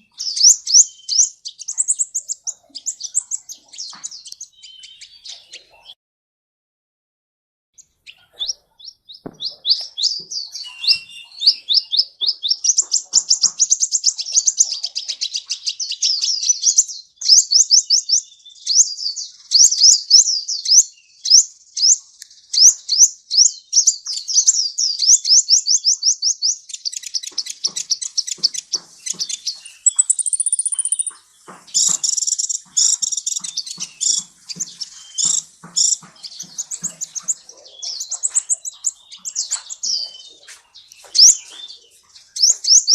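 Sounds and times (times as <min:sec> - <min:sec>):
sunbird song high thin chirps: 0:00.0 - 0:06.0, 0:07.8 - 0:42.9.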